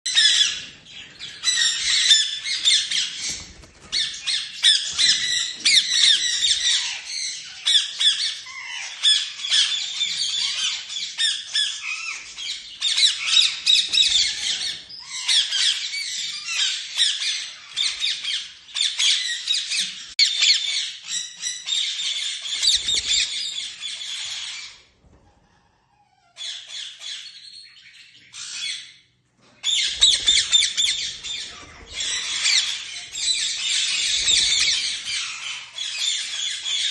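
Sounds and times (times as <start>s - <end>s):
lovebirds chattering and squawking: 0.1s - 36.9s.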